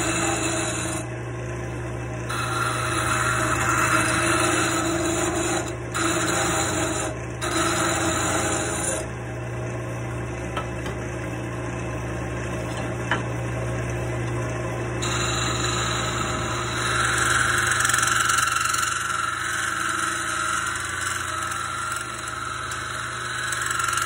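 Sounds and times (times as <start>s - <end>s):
wood lathe humming: 0.0s - 24.0s.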